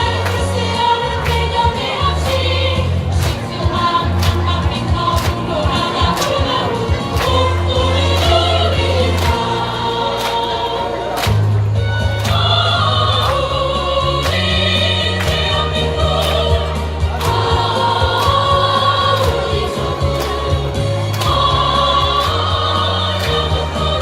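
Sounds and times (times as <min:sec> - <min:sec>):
choir singing: 0:00.0 - 0:11.3, 0:12.2 - 0:24.0
backing track beat: 0:00.0 - 0:24.0.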